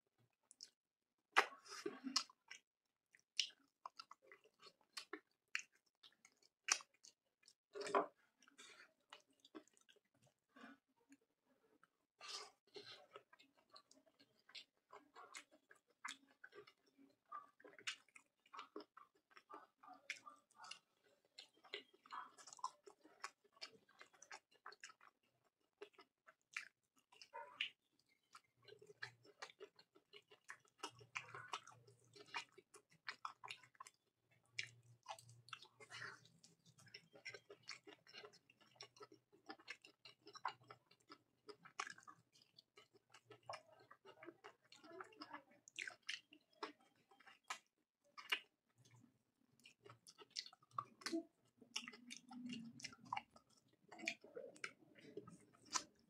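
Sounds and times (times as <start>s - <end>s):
person chewing food: 0.5s - 11.2s, 11.8s - 56.0s.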